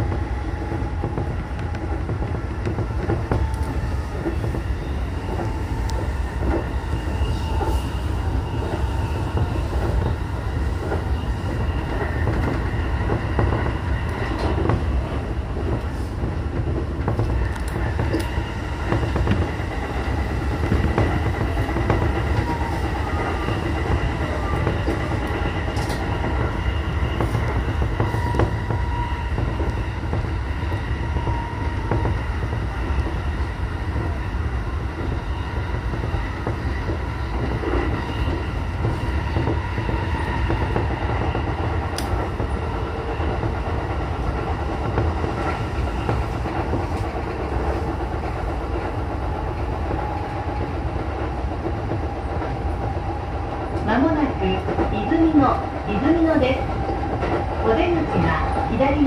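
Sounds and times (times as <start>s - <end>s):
rail clicks: 0.0s - 59.0s
train wheels and motors rumbling: 0.0s - 59.0s.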